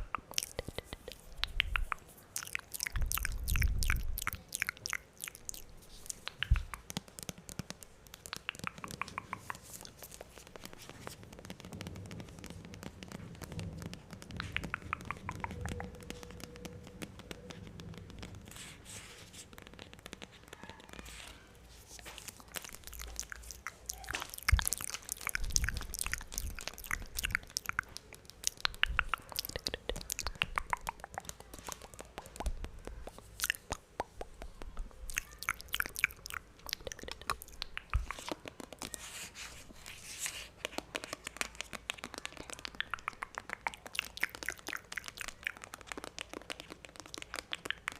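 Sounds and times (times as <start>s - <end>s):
wet mouth clicks and smacks: 0.0s - 18.4s, 21.8s - 47.9s.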